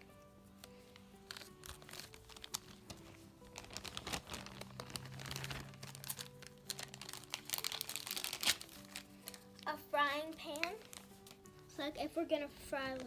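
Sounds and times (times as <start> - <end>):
soft background music: 0.0 - 13.0
plastic packaging crinkling: 0.6 - 11.7, 12.8 - 13.0.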